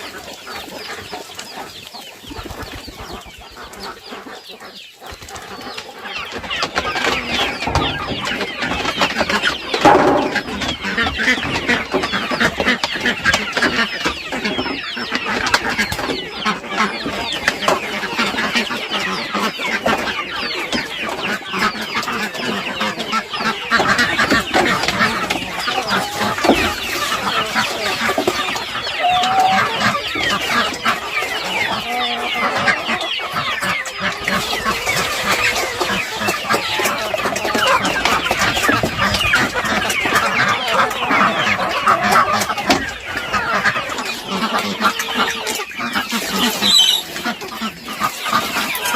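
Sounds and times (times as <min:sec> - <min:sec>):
flock of chickens clucking: 0:00.0 - 0:48.9.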